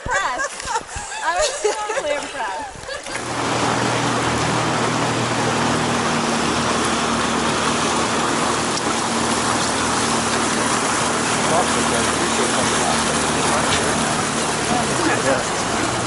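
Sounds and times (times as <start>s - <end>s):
river water rushing: 2.3s - 16.0s.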